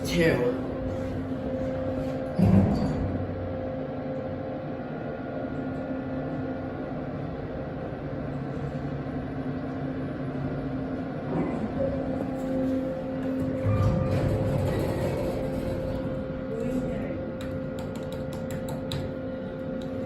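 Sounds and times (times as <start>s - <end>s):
elevator drive hum: 0.0s - 20.0s
ventilation fan: 0.0s - 20.0s.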